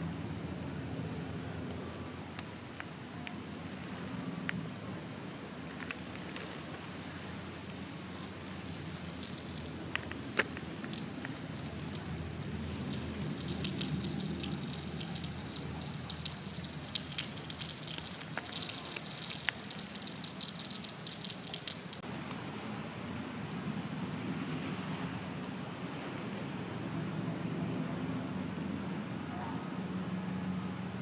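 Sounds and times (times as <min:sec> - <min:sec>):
outdoor background hiss: 0:00.0 - 0:31.0.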